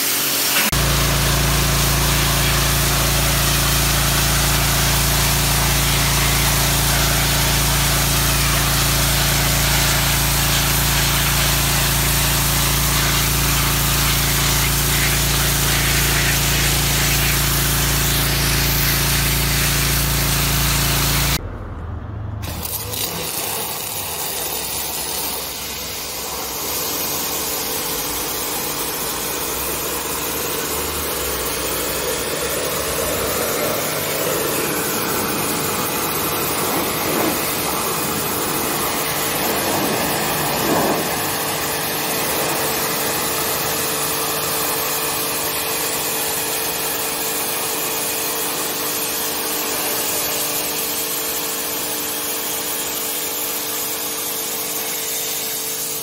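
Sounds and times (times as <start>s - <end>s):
pressure washer motor hum: 0.0s - 21.4s, 22.4s - 56.0s
water jet hissing: 0.0s - 21.4s, 22.4s - 56.0s.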